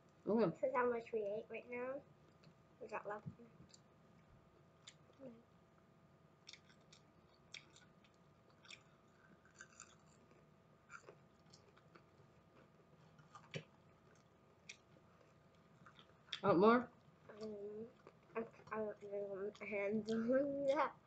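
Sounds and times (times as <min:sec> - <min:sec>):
faint chewing: 0:02.2 - 0:05.4, 0:06.4 - 0:21.0.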